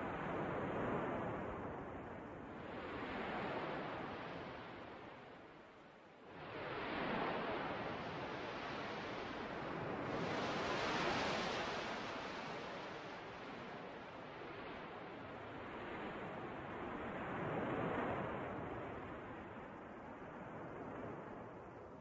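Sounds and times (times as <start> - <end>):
ocean surf washing ashore: 0.0 - 21.4.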